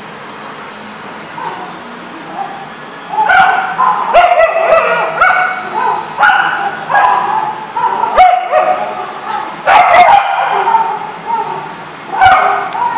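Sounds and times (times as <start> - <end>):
dogs barking and yipping: 1.3 - 12.9.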